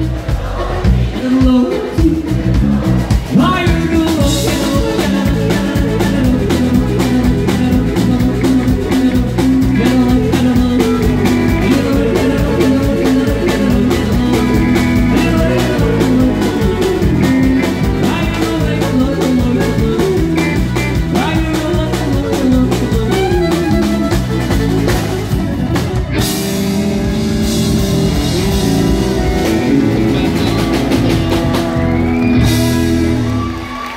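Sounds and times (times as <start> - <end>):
live country band playing: 0.0 - 33.9.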